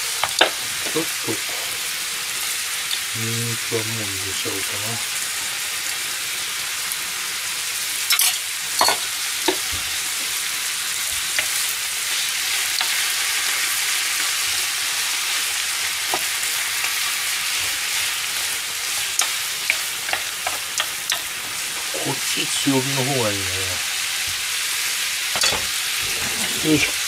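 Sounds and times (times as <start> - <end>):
food sizzling in a frying pan: 0.0 - 27.0.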